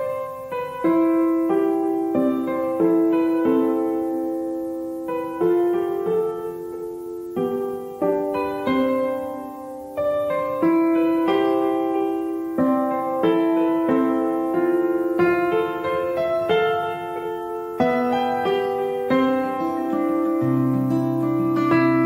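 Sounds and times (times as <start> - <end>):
gentle piano piece: 0.0 - 22.0.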